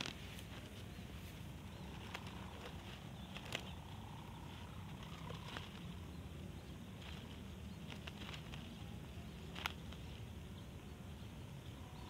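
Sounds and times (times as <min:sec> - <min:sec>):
faint clicks and ticks: 0:00.0 - 0:10.3
low outdoor rumble: 0:00.0 - 0:12.0.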